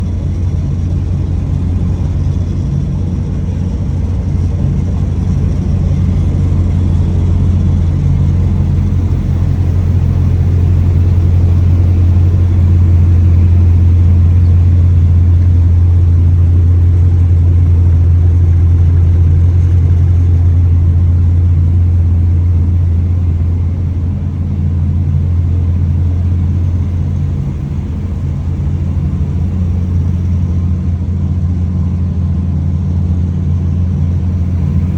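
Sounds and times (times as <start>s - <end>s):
car engine running steadily: 0.0s - 34.9s.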